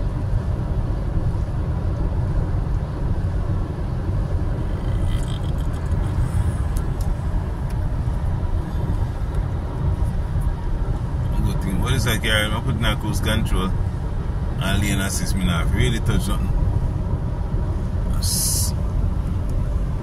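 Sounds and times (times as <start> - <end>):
road and tyre rumble: 0.0 - 20.0.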